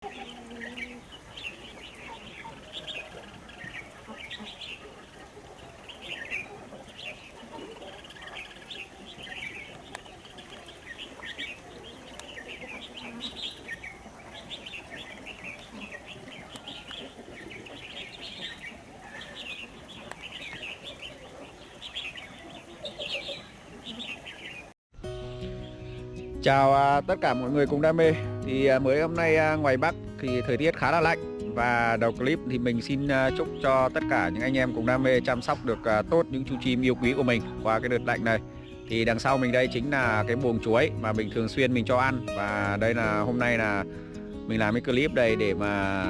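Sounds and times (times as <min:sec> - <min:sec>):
flock of birds chirping: 0:00.0 - 0:46.0.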